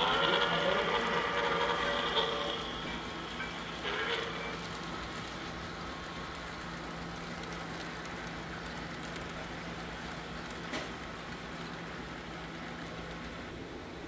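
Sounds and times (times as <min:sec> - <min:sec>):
model train cars rolling on track: 0:00.0 - 0:14.0.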